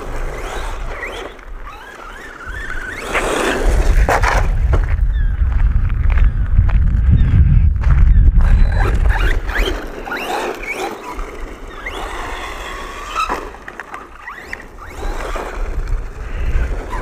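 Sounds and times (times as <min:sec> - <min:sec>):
electric motor whine: 0:00.0 - 0:05.4, 0:08.3 - 0:17.0
tyres on gravel: 0:00.0 - 0:17.0.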